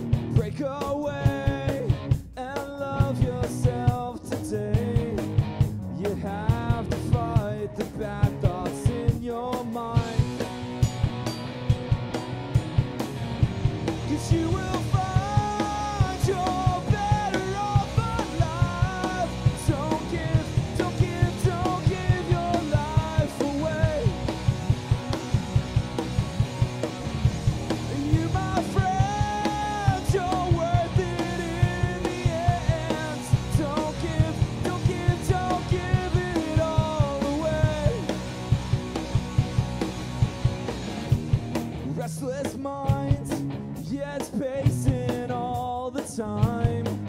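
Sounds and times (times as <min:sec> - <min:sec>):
bass and guitars: 0:00.0 - 0:47.0
drum kit beat: 0:00.0 - 0:47.0.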